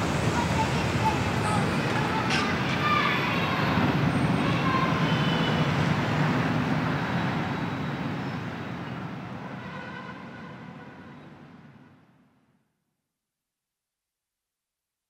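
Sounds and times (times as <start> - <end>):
city street traffic: 0.0 - 12.6.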